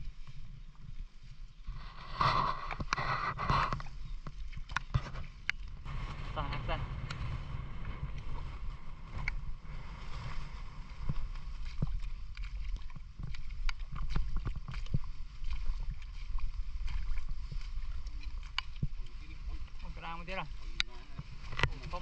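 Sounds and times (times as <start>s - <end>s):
water sloshing and splashing: 0.1s - 22.0s
low microphone rumble: 1.6s - 22.0s.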